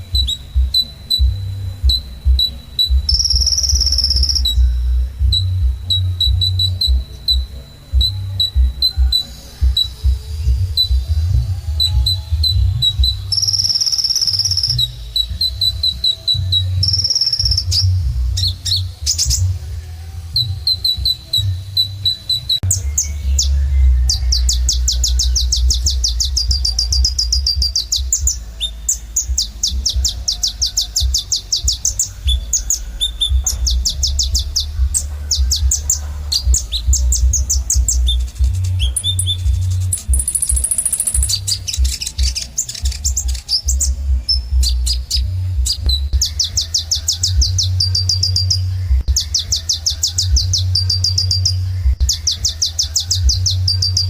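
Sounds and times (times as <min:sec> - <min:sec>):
fast bird trill: 0:00.0 - 0:10.1, 0:11.8 - 0:19.5, 0:20.4 - 0:54.0
steady low rumble: 0:00.0 - 0:48.0
sunbird singing: 0:00.0 - 0:54.0.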